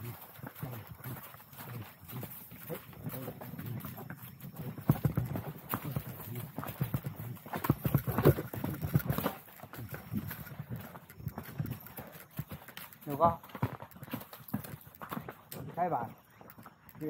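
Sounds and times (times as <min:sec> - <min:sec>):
horse hooves on gravel: 0:00.0 - 0:17.0.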